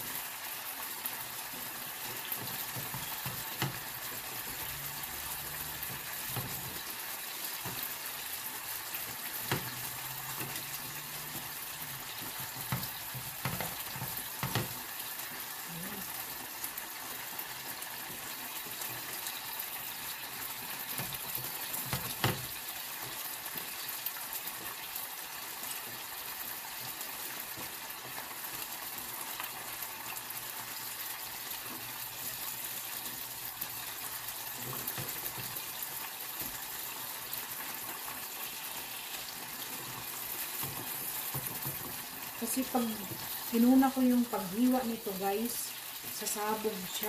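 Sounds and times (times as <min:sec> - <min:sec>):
sausages sizzling in a frying pan: 0:00.0 - 0:47.0.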